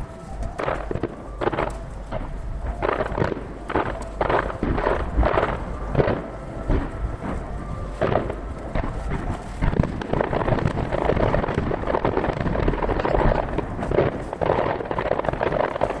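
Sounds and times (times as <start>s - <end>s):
distant fireworks bursting: 0.0s - 16.0s
low rumble: 0.0s - 16.0s.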